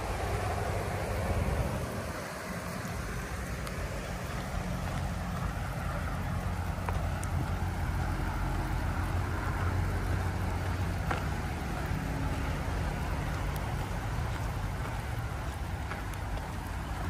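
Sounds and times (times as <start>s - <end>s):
vehicle low rumble: 0.0s - 17.0s.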